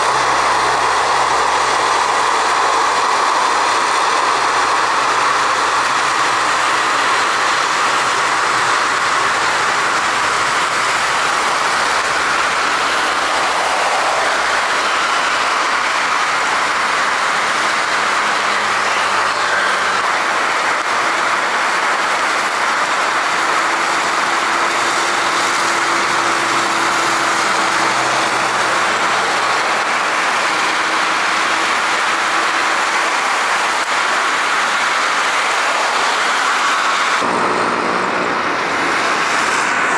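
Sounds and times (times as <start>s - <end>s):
aircraft engines rushing: 0.0s - 39.9s.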